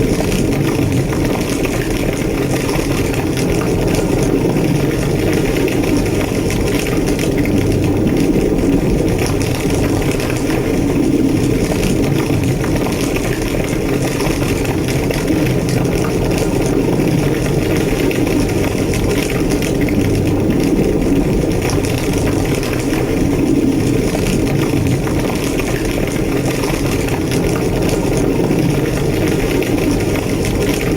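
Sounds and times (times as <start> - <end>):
fire roaring and crackling: 0.0 - 30.9.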